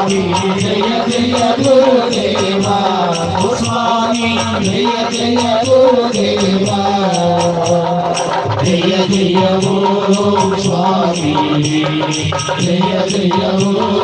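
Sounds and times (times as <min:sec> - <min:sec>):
high percussion beat: 0:00.0 - 0:14.0
person singing chant-like melody: 0:00.0 - 0:14.0.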